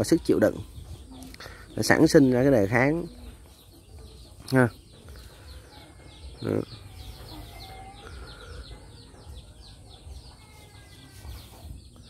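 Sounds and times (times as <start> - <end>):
birds chirping: 0.0 - 12.0
chickens clucking faintly: 0.0 - 12.0.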